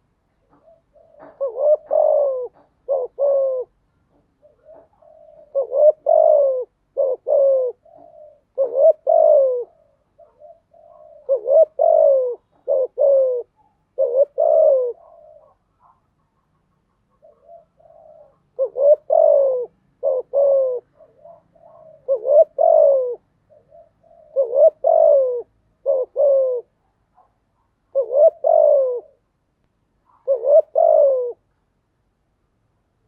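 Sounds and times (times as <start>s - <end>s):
dove cooing: 0.0s - 29.4s, 30.0s - 31.6s.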